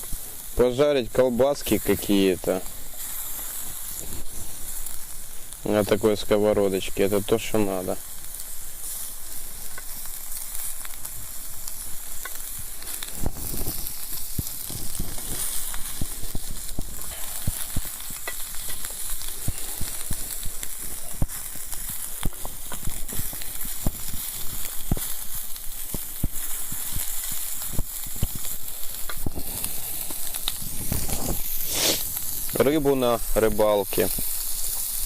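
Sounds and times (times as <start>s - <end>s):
fat sizzling in frying pan: 0.0s - 35.0s
pops and crackles: 0.0s - 35.0s.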